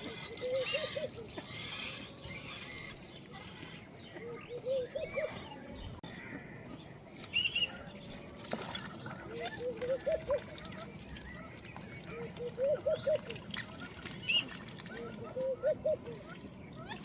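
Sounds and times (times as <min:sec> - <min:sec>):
ducks dabbling in water: 0:00.0 - 0:04.6, 0:07.2 - 0:17.0.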